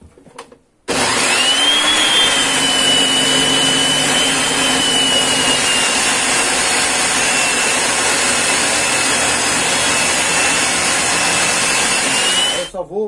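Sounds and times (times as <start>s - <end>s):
table saw whining: 0.9s - 12.8s.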